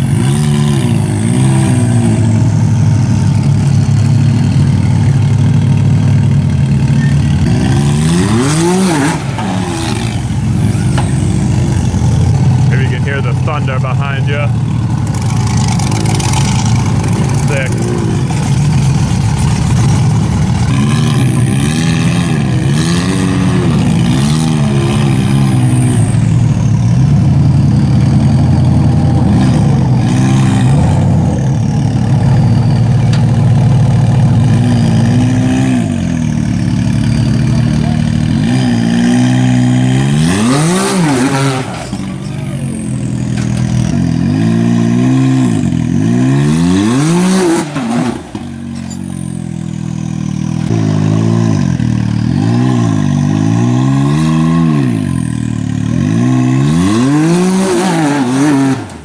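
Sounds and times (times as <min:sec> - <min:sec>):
utv engine revving: 0:00.0 - 0:59.0.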